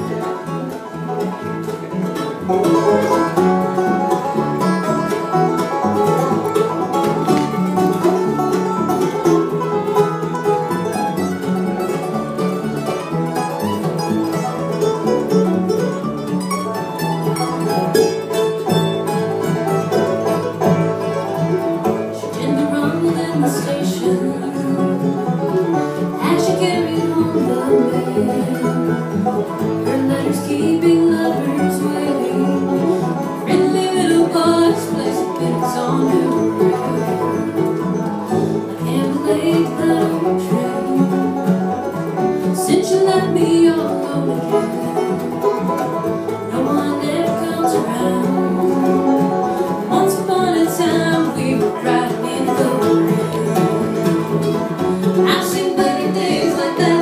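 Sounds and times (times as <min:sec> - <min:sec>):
bluegrass string band playing: 0:00.0 - 0:57.0.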